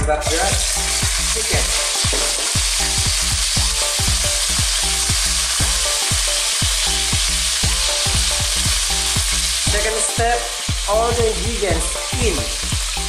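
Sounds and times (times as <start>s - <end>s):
chicken sizzling in oil: 0.2s - 13.0s.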